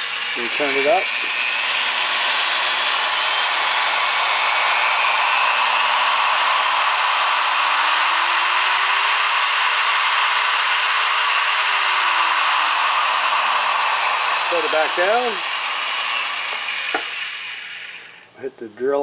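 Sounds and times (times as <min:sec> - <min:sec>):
drill press motor whine: 0:00.0 - 0:18.3.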